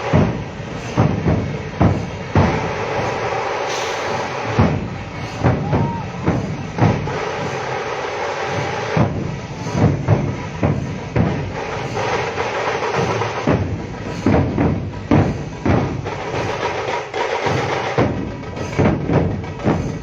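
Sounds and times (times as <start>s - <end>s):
loud thumps: 0.0s - 20.0s
steady dense noise: 0.0s - 20.0s.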